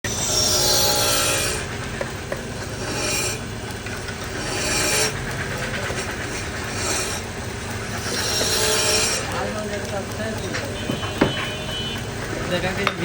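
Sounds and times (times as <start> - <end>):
turning tool cutting wood: 0.0 - 13.0
wood lathe humming: 0.0 - 13.0.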